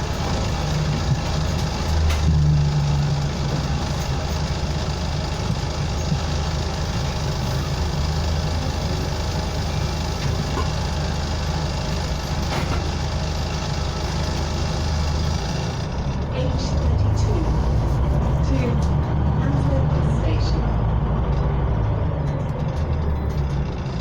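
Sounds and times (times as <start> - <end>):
bus diesel engine droning: 0.0 - 24.0
road and cabin noise: 0.0 - 24.0.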